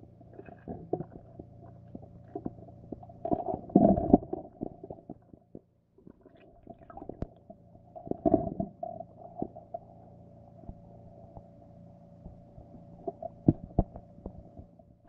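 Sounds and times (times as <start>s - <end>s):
muffled underwater knocks and rumbles: 0.0s - 10.0s, 10.6s - 11.5s, 12.2s - 15.0s
steady hum: 0.0s - 15.0s.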